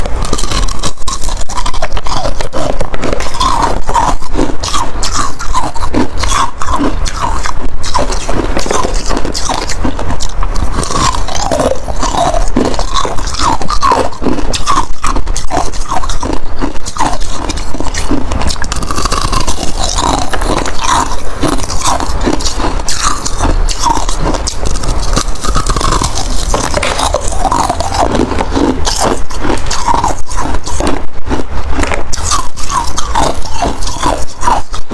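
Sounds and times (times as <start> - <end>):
ice being chewed: 0.0 - 34.9.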